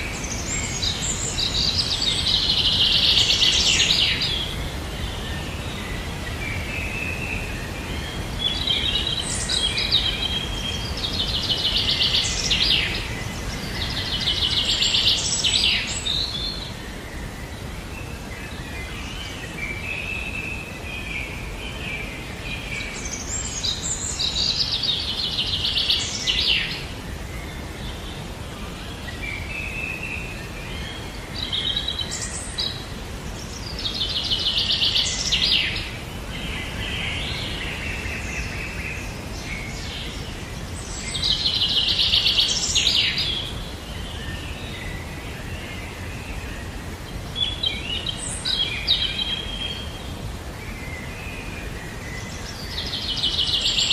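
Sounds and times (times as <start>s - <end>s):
low background noise: 0.0s - 53.9s.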